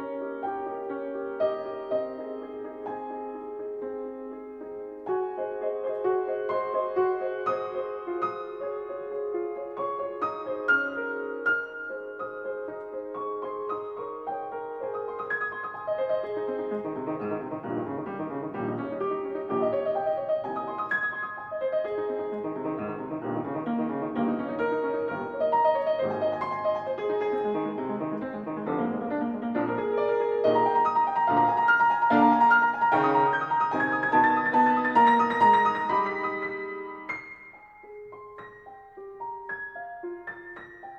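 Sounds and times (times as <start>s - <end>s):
solo piano playing: 0.0s - 40.9s.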